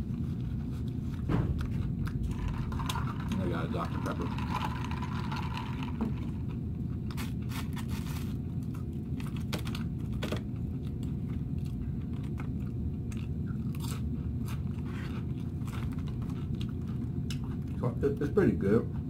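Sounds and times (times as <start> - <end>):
chewing and crunching: 0.0 - 19.0
low steady rumble: 0.0 - 19.0.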